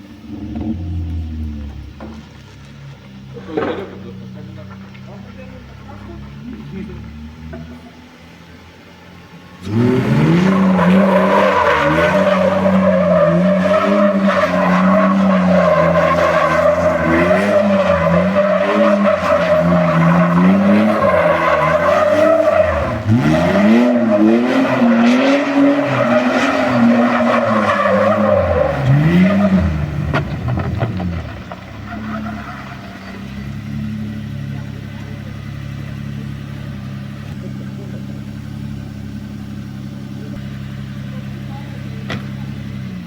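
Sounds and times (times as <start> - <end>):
car engine revving hard: 0.0 - 2.1, 3.2 - 43.0
tyres squealing: 0.3 - 36.2.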